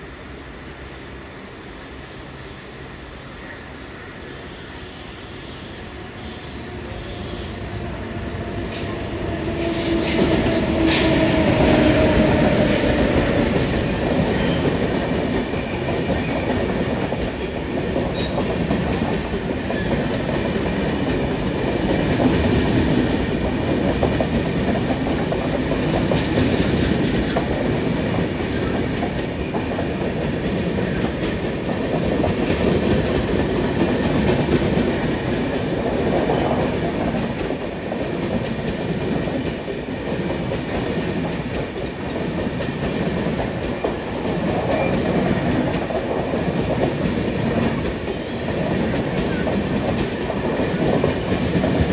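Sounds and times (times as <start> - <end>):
train wheels rumbling and clattering: 5.9 - 51.9.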